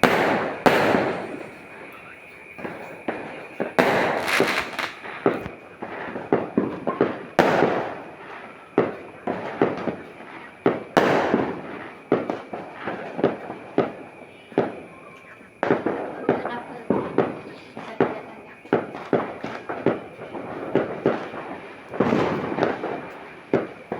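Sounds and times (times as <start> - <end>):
firecrackers popping: 0.0 - 23.9
firework blasts: 0.0 - 23.9.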